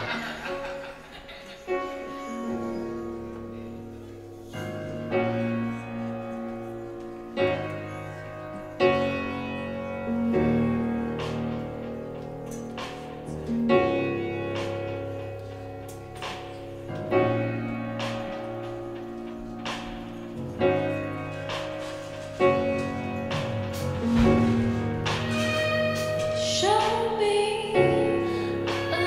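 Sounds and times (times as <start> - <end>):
piano playing slow chords: 0.0 - 29.0.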